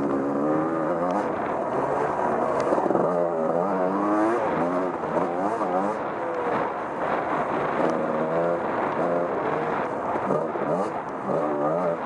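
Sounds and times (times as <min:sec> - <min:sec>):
off-road vehicle engine revving: 0:00.0 - 0:06.6, 0:07.7 - 0:12.0.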